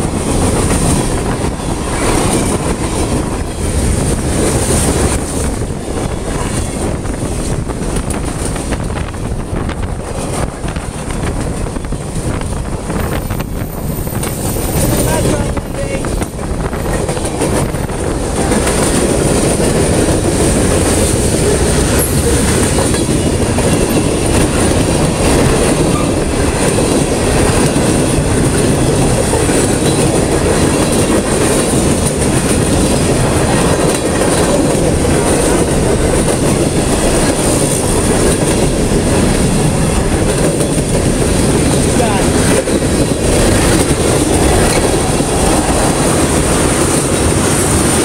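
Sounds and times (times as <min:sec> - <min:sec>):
clickety-clack over rail joints: 0:00.0 - 0:48.0
freight train wheels rumbling: 0:00.0 - 0:48.0.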